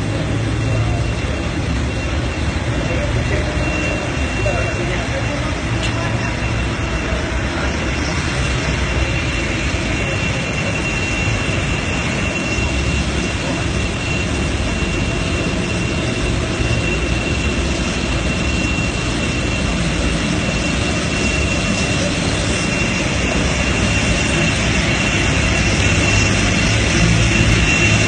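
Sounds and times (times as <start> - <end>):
high-pitched engine whine: 0.0 - 28.0
jet engine rushing: 0.0 - 28.0.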